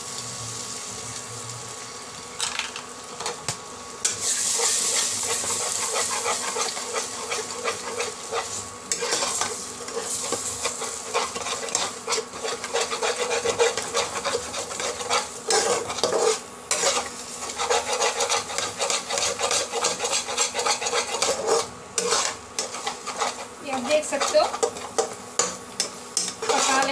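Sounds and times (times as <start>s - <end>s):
eggs sizzling in oil: 0.0s - 26.9s
metal spatula scraping pot: 4.6s - 26.9s.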